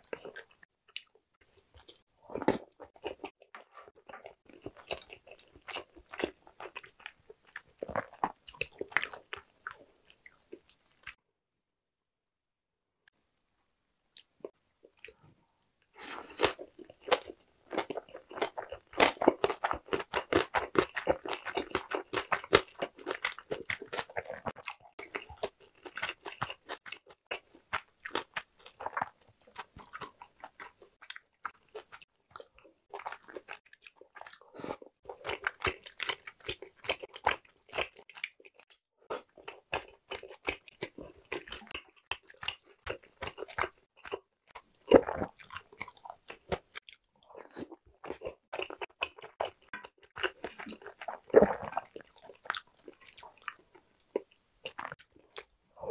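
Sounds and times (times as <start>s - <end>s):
crunchy chewing mouth sounds: 0.0s - 11.2s, 16.0s - 55.9s.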